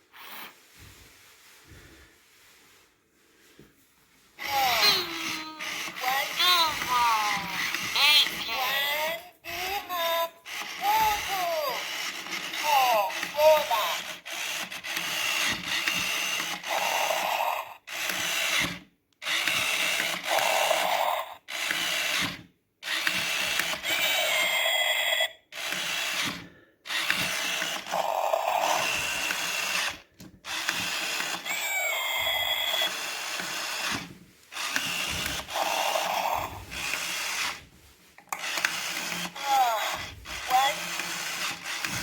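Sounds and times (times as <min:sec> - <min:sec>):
toy motor whirring: 0:04.4 - 0:42.0.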